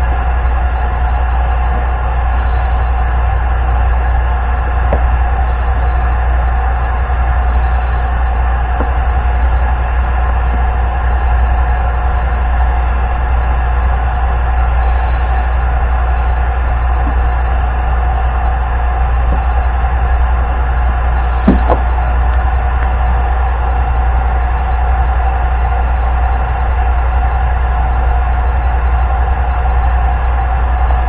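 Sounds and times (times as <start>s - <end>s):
machine hum with whirring: 0.0s - 31.0s.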